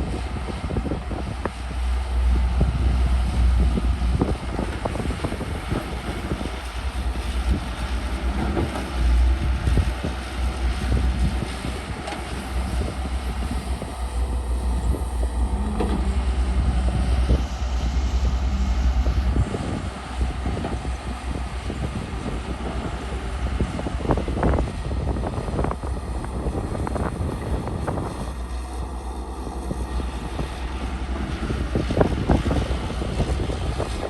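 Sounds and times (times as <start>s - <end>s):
excavator diesel engine running: 0.0s - 34.0s
wind buffeting microphone: 0.0s - 34.0s.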